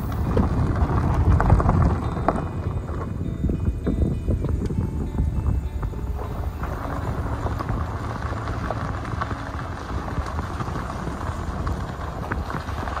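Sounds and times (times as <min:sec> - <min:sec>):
car tyres and engine rumbling: 0:00.0 - 0:13.0
grit crackling under wheels: 0:00.0 - 0:13.0.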